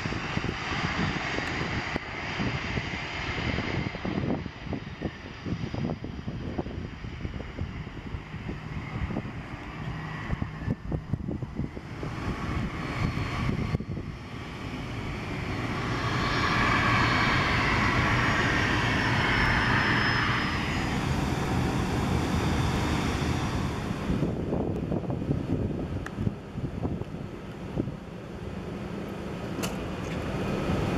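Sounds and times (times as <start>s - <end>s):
jet engine rush with whine: 0.0s - 30.9s.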